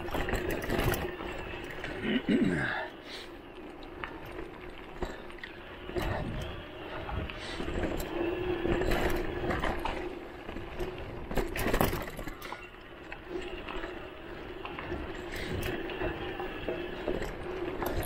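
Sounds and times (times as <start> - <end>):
bike rattling and knocking: 0.0 - 2.6, 3.6 - 18.0
electric bike motor whining: 0.0 - 18.0.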